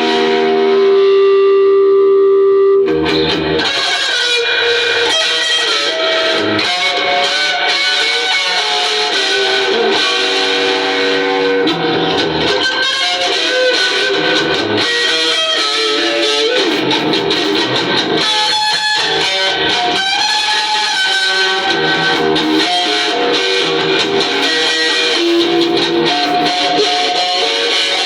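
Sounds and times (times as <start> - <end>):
electric guitar rock-blues: 0.0 - 28.0.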